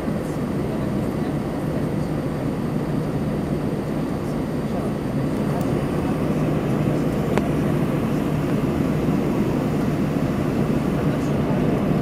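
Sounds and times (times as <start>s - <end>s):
jet engines humming in cabin: 0.0s - 12.0s.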